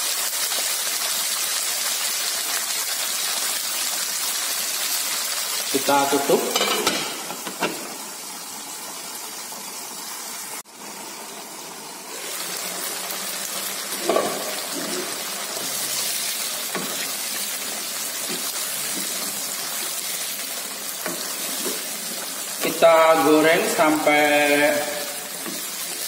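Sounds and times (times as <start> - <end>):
chillies sizzling in hot oil: 0.0 - 26.0.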